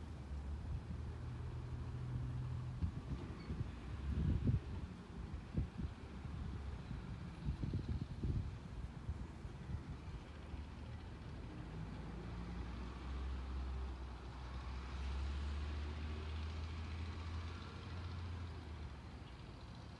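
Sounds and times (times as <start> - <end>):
distant diesel truck engine rumble: 0.0 - 19.9.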